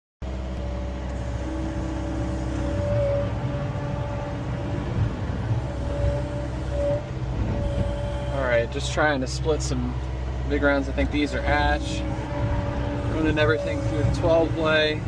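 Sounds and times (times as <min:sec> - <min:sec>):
diesel engine running: 0:00.2 - 0:15.0
high whine: 0:00.2 - 0:15.0.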